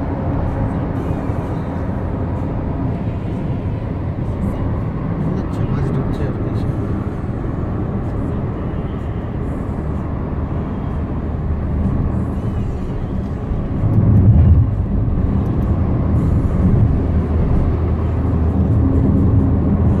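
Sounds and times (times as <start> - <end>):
car engine drone: 0.0 - 20.0.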